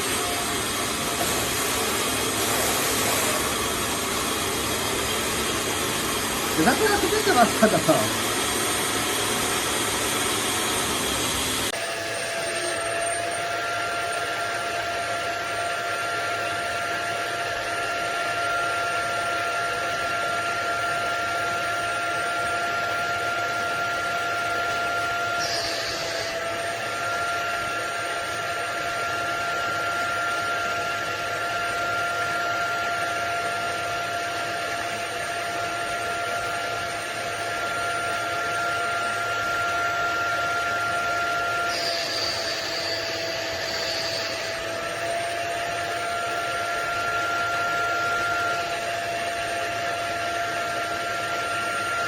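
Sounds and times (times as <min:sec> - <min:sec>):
carpet cleaner suction motor running: 0:00.0 - 0:52.0.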